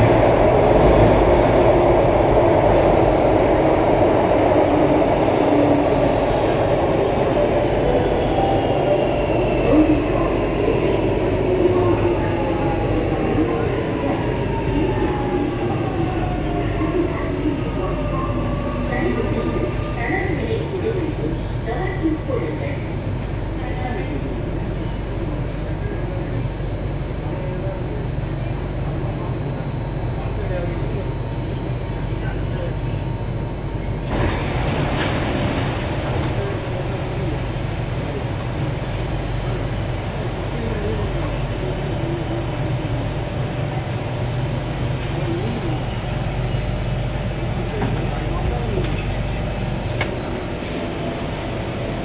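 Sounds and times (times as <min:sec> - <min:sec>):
metro car low hum: 0:00.0 - 0:52.0
wheels rumbling on rail: 0:00.0 - 0:52.0.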